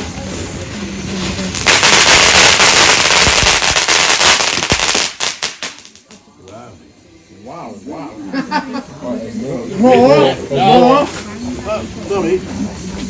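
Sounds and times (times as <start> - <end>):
fireworks crackling: 0.0 - 6.3, 8.5 - 13.0.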